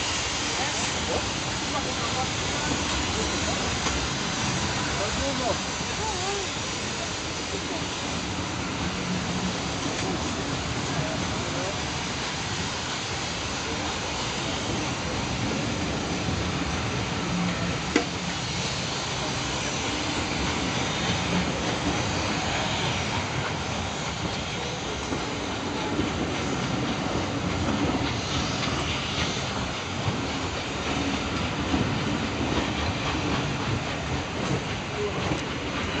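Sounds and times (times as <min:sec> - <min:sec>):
train wheels rumbling on rail: 0:00.0 - 0:36.0
clickety-clack over rail joints: 0:00.4 - 0:36.0.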